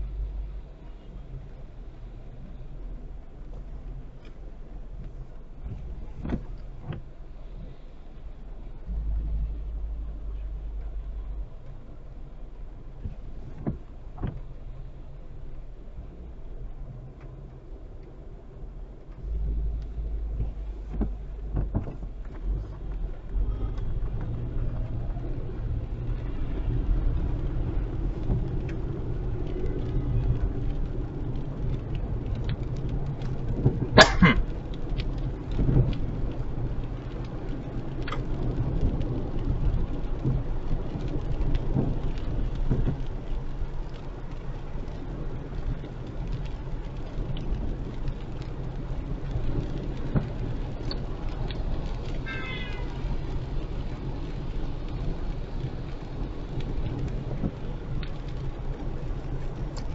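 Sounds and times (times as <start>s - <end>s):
car engine and road rumble: 0.0s - 59.9s
raindrops ticking on car: 0.0s - 59.9s.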